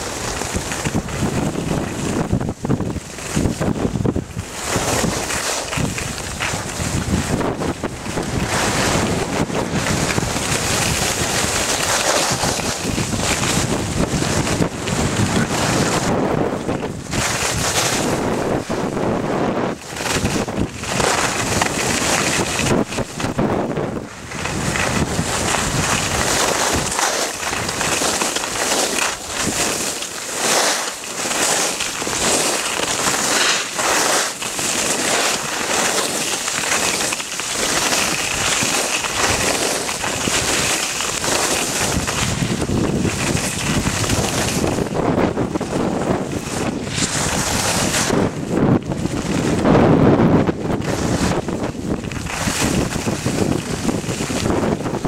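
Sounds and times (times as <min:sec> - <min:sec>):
skis scraping over snow: 0:00.0 - 0:55.0
wind rushing over microphone: 0:00.0 - 0:55.0.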